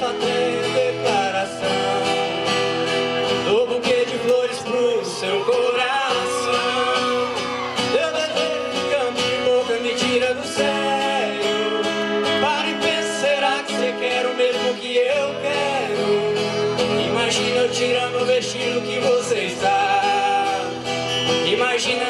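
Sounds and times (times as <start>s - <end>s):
acoustic guitar: 0.0s - 22.0s
person singing: 0.0s - 22.0s.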